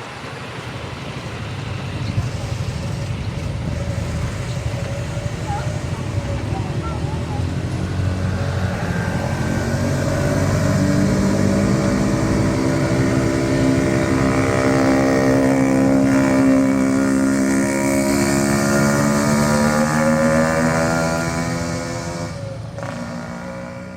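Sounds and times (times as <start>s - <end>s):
diesel locomotive engine drone: 0.0s - 23.9s.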